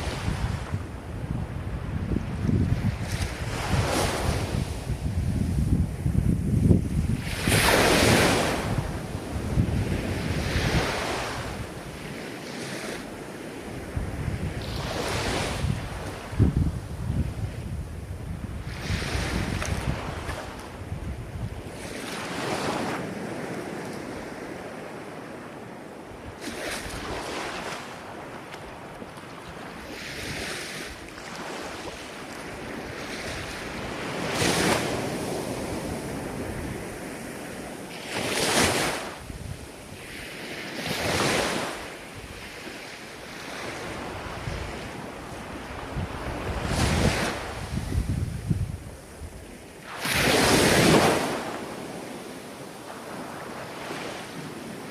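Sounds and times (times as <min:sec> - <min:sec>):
ocean waves breaking on shore: 0:00.0 - 0:54.9
wind noise on microphone: 0:00.0 - 0:54.9.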